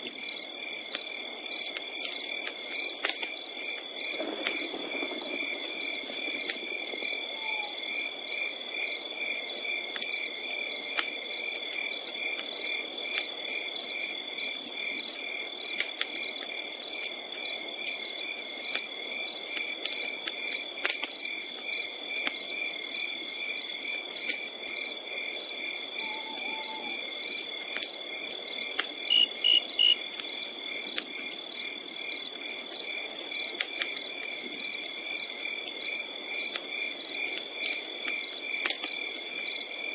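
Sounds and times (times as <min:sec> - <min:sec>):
campfire crackling and popping: 0:00.0 - 0:39.9
campfire hiss: 0:00.0 - 0:39.9
crickets chirping: 0:00.2 - 0:18.6, 0:21.2 - 0:39.9.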